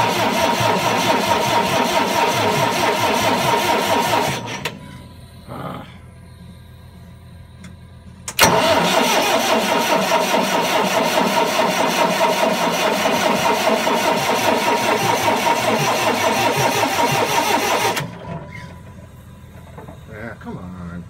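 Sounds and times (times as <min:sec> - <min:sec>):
diesel generator engine rattling: 0:00.0 - 0:21.0.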